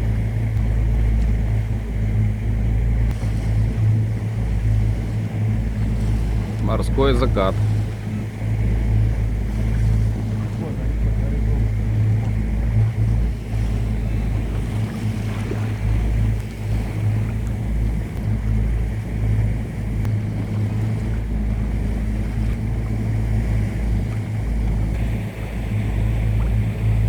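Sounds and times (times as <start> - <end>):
motorboat engine humming: 0.0 - 27.0
water noise: 0.0 - 27.0
wind buffeting microphone: 0.0 - 27.0.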